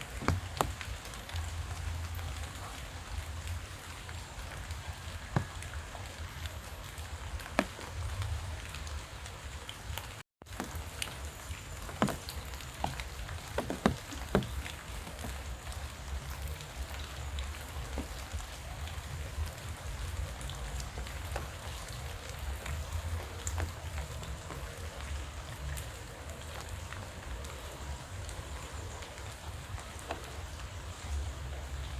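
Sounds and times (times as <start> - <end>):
raindrops tapping close by: 0.0 - 31.9
steady rain falling: 0.0 - 31.9.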